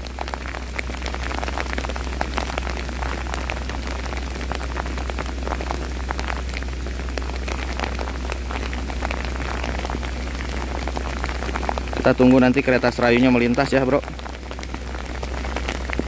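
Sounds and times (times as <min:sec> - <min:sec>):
heavy rain falling: 0:00.0 - 0:16.0
low hum: 0:00.0 - 0:16.0.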